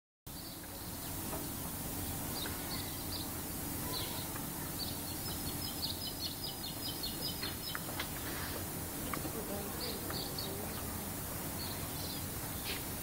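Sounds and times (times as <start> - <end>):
small birds chirping: 0.3 - 13.0
steady background noise: 0.3 - 13.0.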